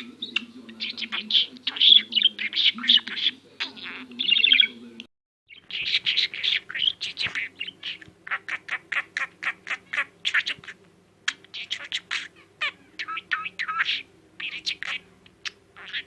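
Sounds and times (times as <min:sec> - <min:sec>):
budgerigar chattering: 0:00.0 - 0:04.8, 0:05.5 - 0:16.0.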